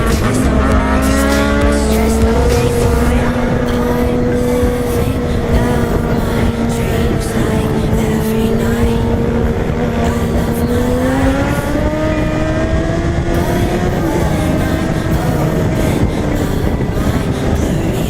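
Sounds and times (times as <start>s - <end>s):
loud low rush: 0.0s - 18.0s
motorcycle engine accelerating: 0.0s - 18.0s.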